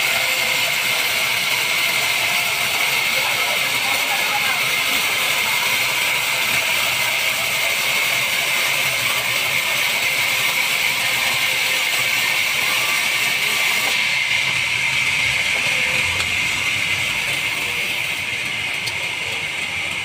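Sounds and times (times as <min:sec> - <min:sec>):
band saw blade cutting log: 0:00.0 - 0:19.4.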